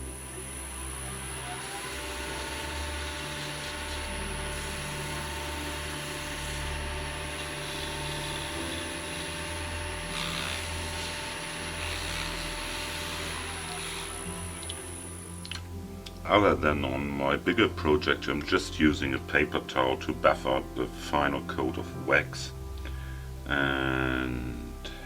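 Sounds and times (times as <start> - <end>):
background music: 0.0 - 25.0
wood lathe motor whining: 0.0 - 25.0.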